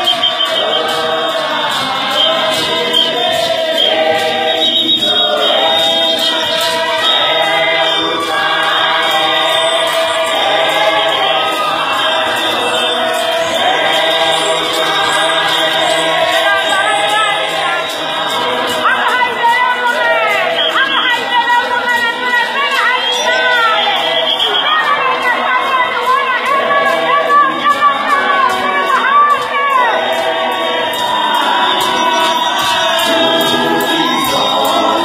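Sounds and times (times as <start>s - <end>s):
church choir singing: 0.0s - 35.0s.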